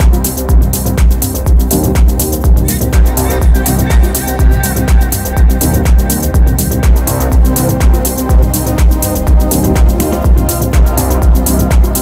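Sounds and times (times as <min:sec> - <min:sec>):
electronic dance music: 0:00.0 - 0:12.0
four-on-the-floor kick drum: 0:00.0 - 0:12.0
hi-hats: 0:00.0 - 0:12.0.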